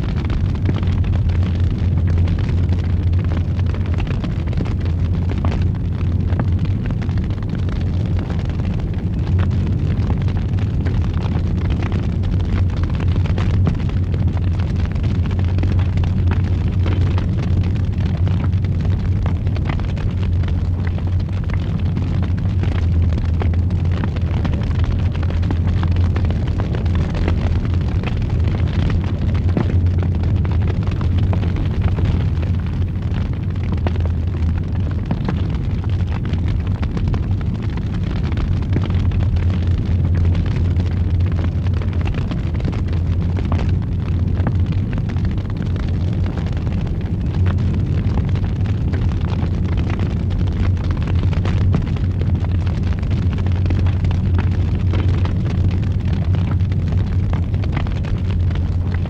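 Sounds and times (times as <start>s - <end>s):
fire crackling and popping: 0.0s - 59.0s
fire roaring: 0.0s - 59.0s.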